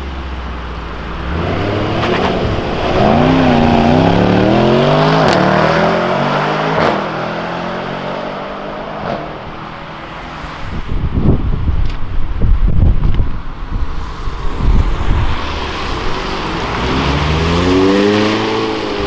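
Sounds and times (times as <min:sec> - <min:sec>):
car engine accelerating: 0:00.0 - 0:10.6, 0:14.1 - 0:19.0.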